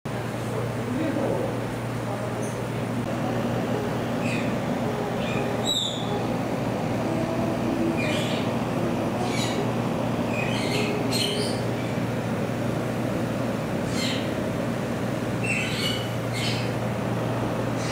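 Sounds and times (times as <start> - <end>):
ventilation humming: 0.1 - 17.9.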